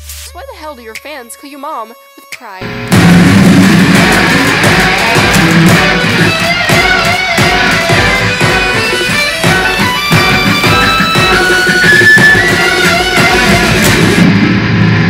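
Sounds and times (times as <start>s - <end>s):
steady drum beat: 0.0s - 14.4s
electric guitar: 2.6s - 15.0s.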